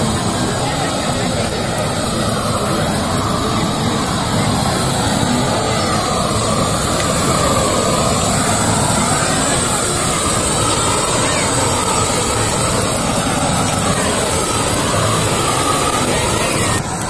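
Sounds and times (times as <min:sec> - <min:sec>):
bonfire flaring with rushing roar: 0:00.0 - 0:17.0.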